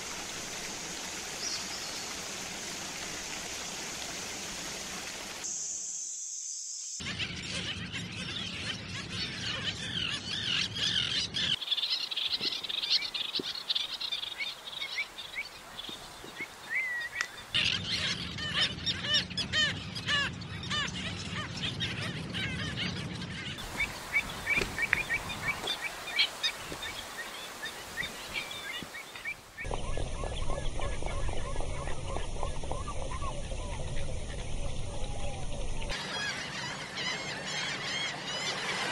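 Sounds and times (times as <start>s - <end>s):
chorus of birds chirping: 0.0s - 2.8s, 6.9s - 38.9s.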